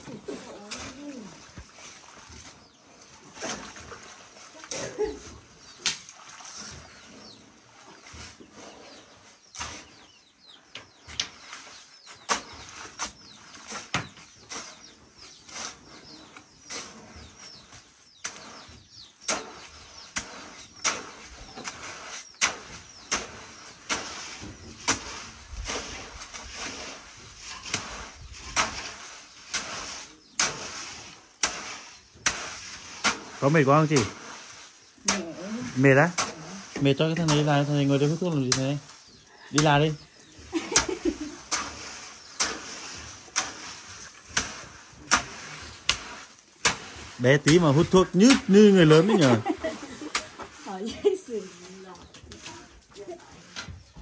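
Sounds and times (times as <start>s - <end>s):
hand tools scraping wet cement: 0.0s - 54.0s.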